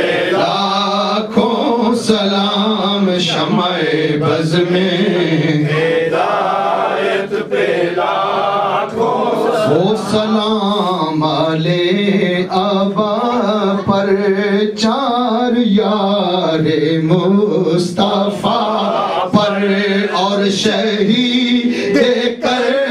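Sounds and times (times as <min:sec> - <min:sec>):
man chanting into a microphone: 0:00.0 - 0:06.2, 0:09.4 - 0:22.9.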